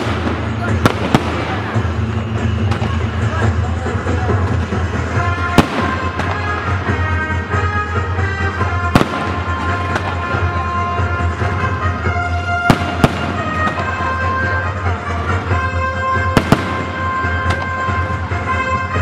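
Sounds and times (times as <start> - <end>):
fireworks bangs: 0.0 - 19.0
fireworks crackling: 0.0 - 19.0
music with held notes: 0.0 - 19.0.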